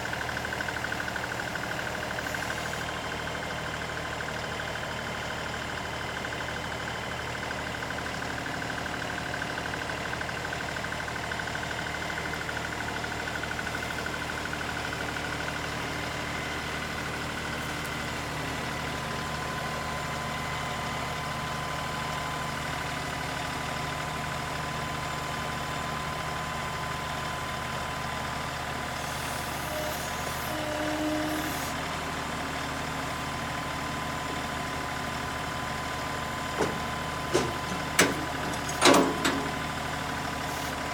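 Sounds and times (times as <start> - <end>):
tractor engine running: 0.0 - 30.3, 31.1 - 40.9.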